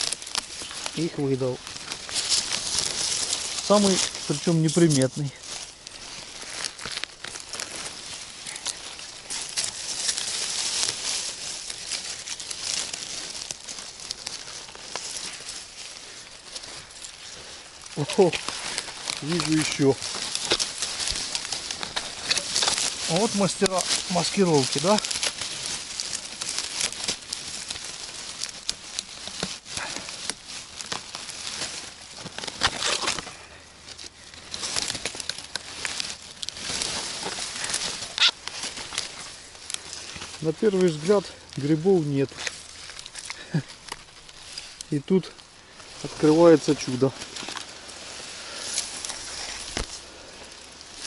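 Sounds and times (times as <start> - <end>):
dry reeds and leaves rustling: 0.0 - 51.0.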